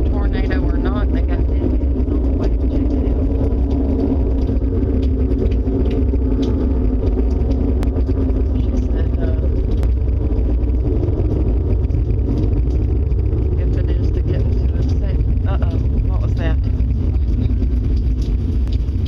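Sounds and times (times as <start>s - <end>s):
deep rumble: 0.0s - 19.0s
low drone of held tones: 0.0s - 19.0s.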